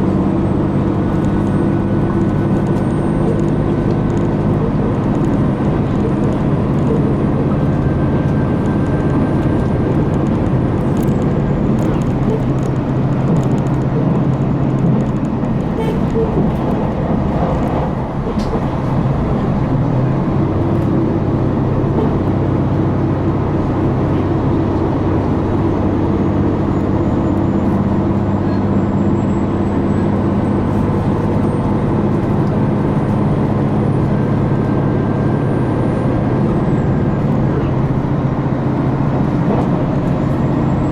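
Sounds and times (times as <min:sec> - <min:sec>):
diesel railcar engine droning: 0:00.0 - 0:40.9.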